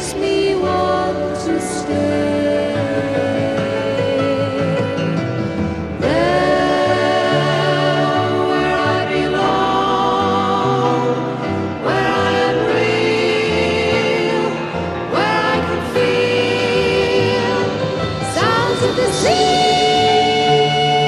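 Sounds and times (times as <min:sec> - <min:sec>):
steady bass line: 0:00.0 - 0:21.0
voices singing with vibrato: 0:00.0 - 0:21.0.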